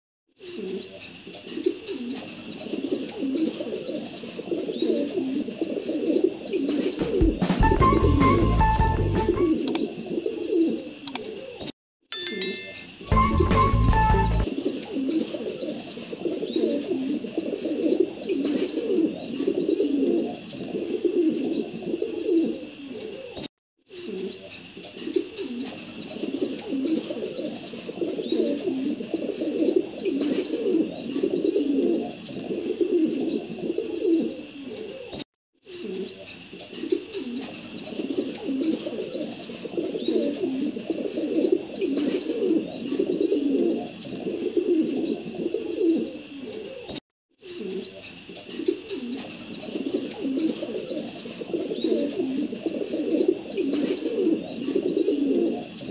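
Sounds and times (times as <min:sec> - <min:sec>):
small birds chirping: 0:00.4 - 0:07.3, 0:09.5 - 0:11.7, 0:12.5 - 0:55.9
pigeons cooing: 0:00.4 - 0:11.7, 0:13.1 - 0:55.9.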